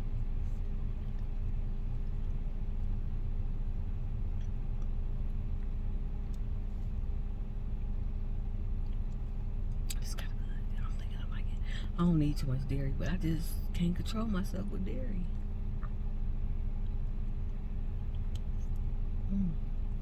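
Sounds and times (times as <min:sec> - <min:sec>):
car running from inside cabin: 0:00.0 - 0:20.0.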